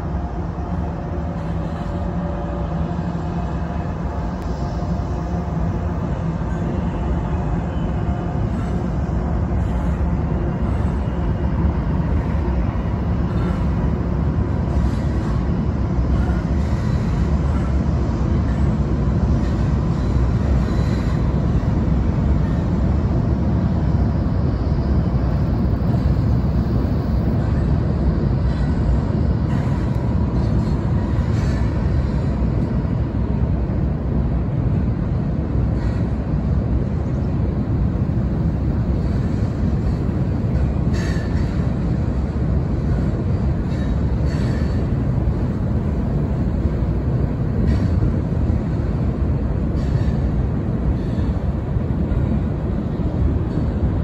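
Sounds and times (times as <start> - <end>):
diesel locomotives rumbling: 0.0 - 54.0.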